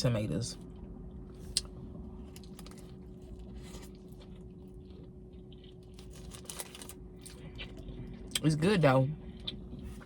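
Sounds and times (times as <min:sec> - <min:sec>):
faint steady hum: 0:00.0 - 0:10.0
person chewing food: 0:00.7 - 0:08.4, 0:09.2 - 0:10.0.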